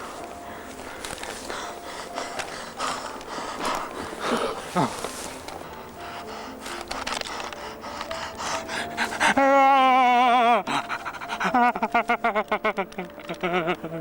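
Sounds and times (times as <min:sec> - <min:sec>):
person panting: 0:00.0 - 0:12.3.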